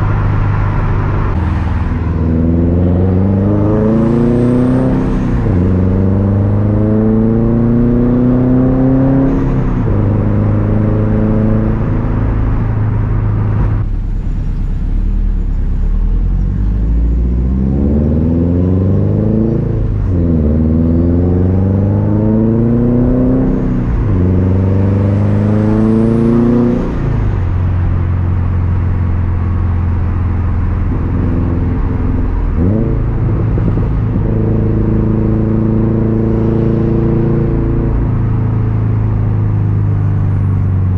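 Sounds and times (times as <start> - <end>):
car engine revving: 0.0 - 14.2, 15.8 - 40.9.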